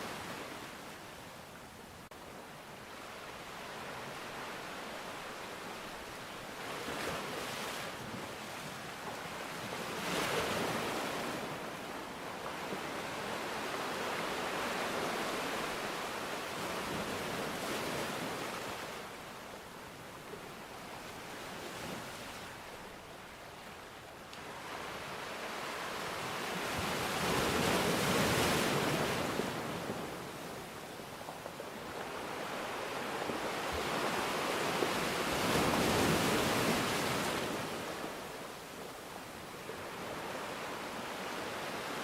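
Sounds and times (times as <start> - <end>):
ocean waves rushing and washing: 0.0 - 42.0.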